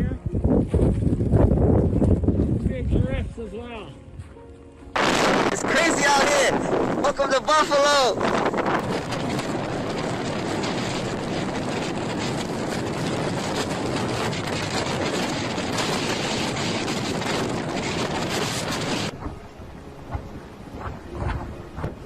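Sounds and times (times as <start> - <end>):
wind blowing across microphone: 0.0 - 22.0.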